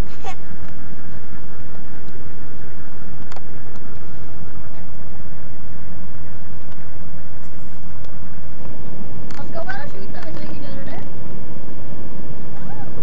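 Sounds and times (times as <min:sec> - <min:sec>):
low engine drone in cabin: 0:00.0 - 0:13.0.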